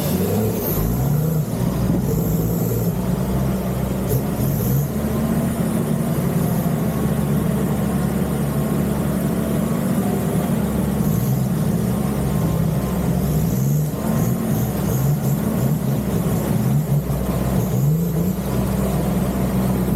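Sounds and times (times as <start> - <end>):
engine running under load: 0.0 - 19.9.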